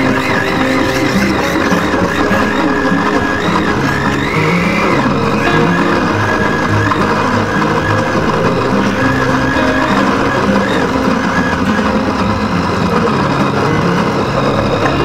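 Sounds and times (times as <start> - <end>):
electric blender running: 0.0 - 15.0.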